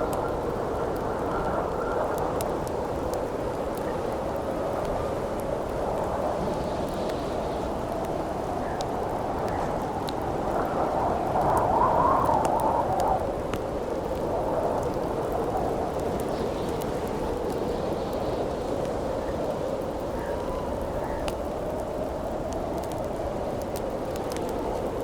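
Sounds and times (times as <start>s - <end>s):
campfire crackling and popping: 0.0s - 25.0s
howling wind: 0.0s - 25.0s.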